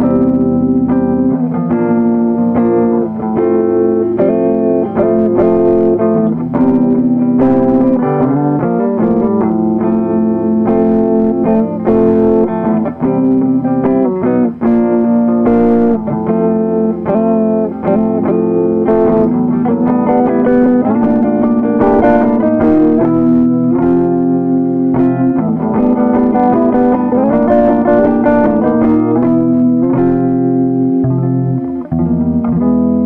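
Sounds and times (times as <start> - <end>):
electric guitar chords and notes: 0.0 - 33.0.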